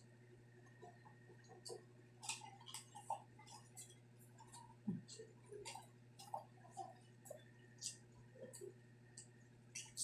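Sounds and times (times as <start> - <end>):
steady low hum: 0.0 - 10.0
crunchy chewing: 0.6 - 10.0.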